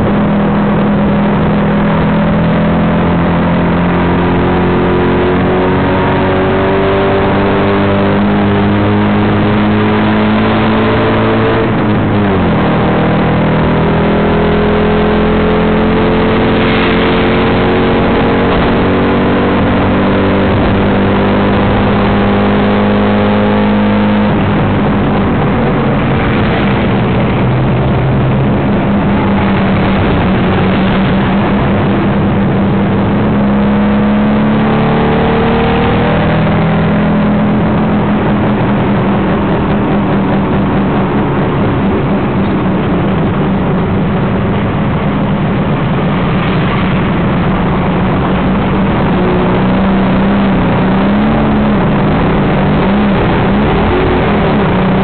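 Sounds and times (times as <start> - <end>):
auto rickshaw engine accelerating: 0.0 - 55.0
road and traffic noise: 0.0 - 55.0.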